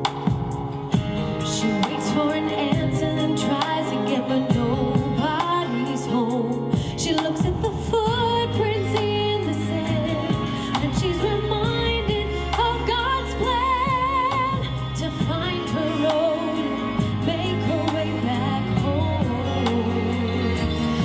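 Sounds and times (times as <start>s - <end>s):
backing track with bass and beat: 0.0s - 21.0s
woman singing with vibrato: 1.3s - 21.0s.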